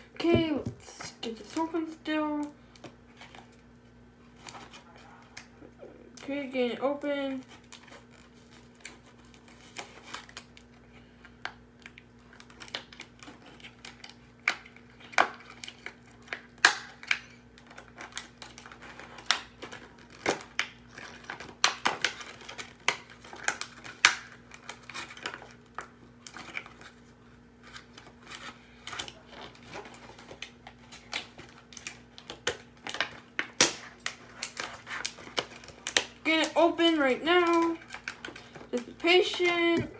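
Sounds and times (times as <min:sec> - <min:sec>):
faint steady hum: 0:00.0 - 0:39.9
packaging clicking and tearing: 0:07.4 - 0:39.6.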